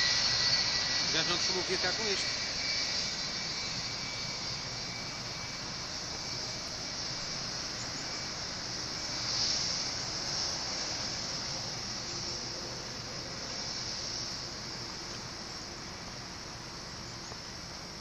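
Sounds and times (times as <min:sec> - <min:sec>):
jet engines hissing: 0:00.0 - 0:18.0.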